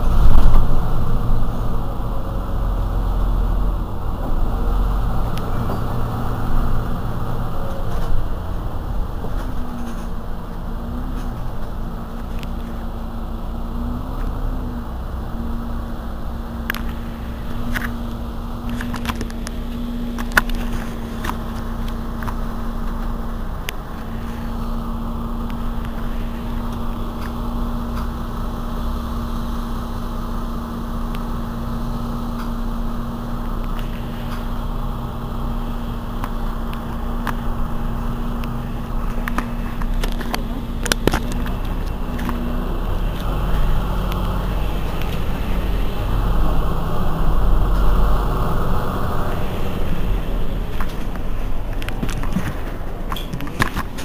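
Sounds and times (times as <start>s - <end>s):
bus engine idling: 0.0s - 54.0s
steady hum: 0.0s - 54.0s.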